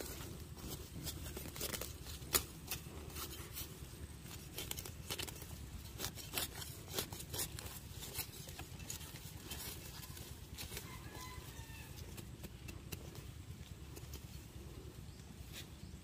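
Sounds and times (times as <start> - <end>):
leaves rustling: 0.0 - 16.0
roots crackling and tearing: 0.0 - 16.0.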